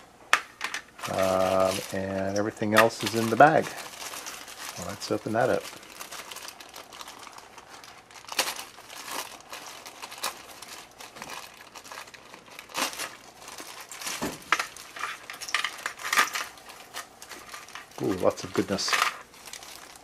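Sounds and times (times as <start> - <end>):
plastic bag crinkling: 0.7 - 20.0.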